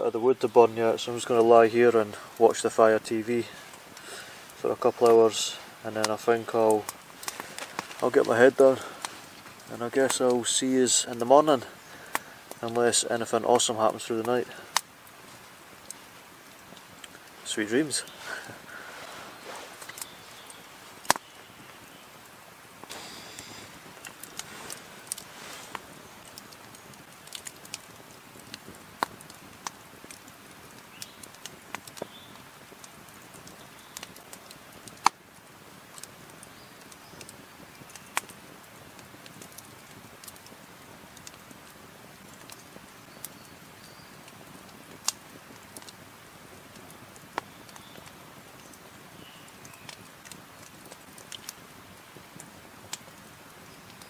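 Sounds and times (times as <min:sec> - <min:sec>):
campfire crackling and popping: 0:00.0 - 0:54.0
faint steady hiss: 0:00.0 - 0:54.0.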